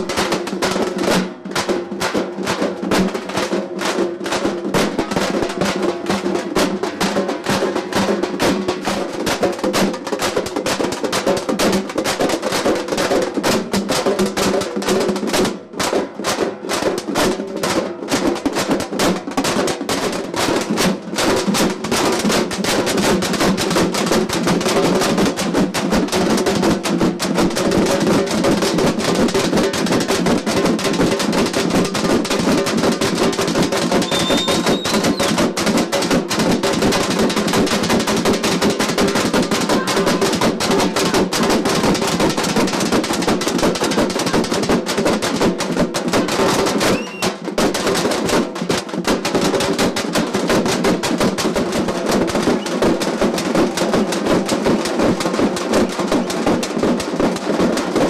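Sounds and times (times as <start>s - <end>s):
group of drummers drumming: 0.0s - 58.0s.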